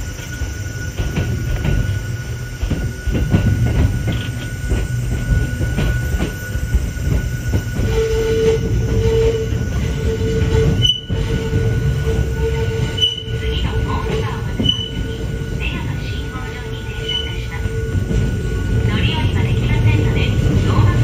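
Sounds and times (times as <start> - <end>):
wheels squealing: 0.0 - 18.8
railcar rumbling: 0.0 - 21.0.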